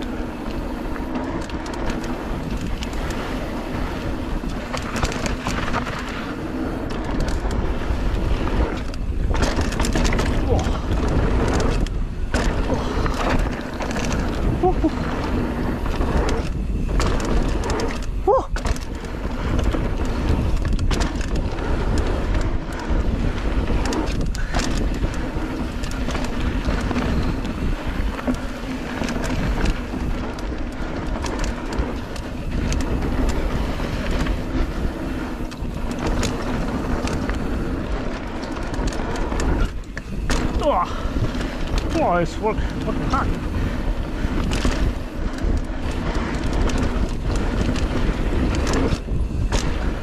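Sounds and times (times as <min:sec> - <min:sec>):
bike clicks and rattles: 0:00.0 - 0:50.0
tyres rolling on dirt: 0:00.0 - 0:50.0
wind rushing over microphone: 0:00.0 - 0:50.0.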